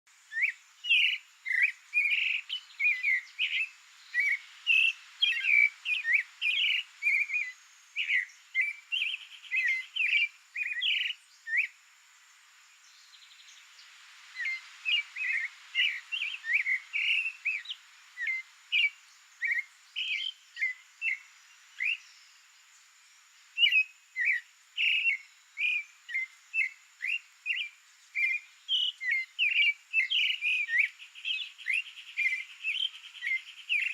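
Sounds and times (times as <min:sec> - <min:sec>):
thrush singing whistled notes: 0:00.1 - 0:11.8, 0:12.8 - 0:33.9.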